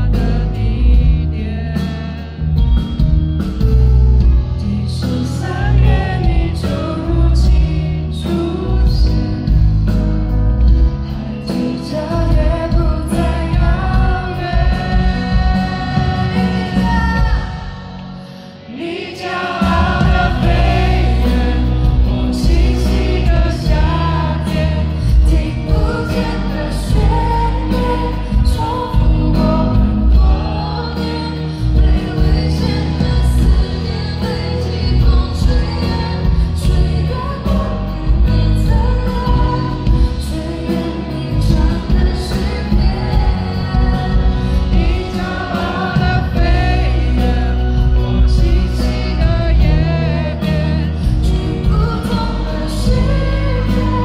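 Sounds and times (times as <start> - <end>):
band playing: 0.0 - 54.0
woman singing pop ballad: 0.0 - 54.0.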